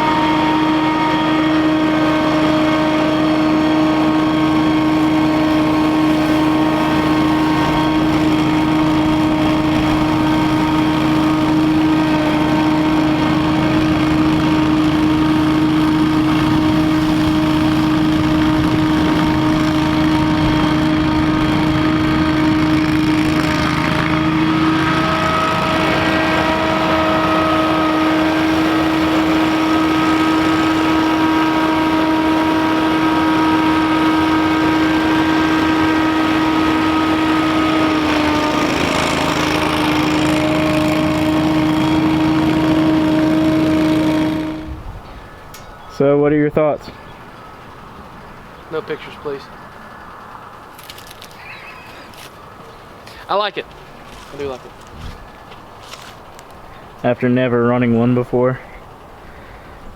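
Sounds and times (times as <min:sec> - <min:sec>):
leaf blower whining: 0:00.0 - 0:46.1, 0:46.8 - 0:57.1.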